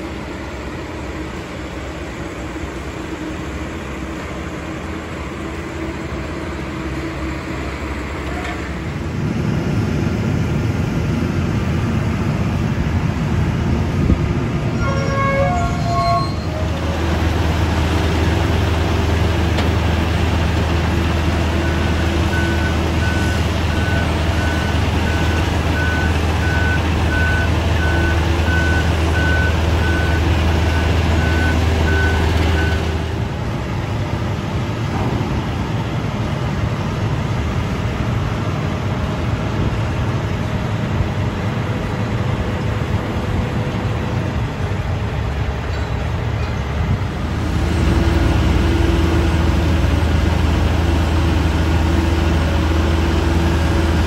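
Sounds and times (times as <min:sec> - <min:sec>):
diesel machinery running: 0:00.0 - 0:54.0.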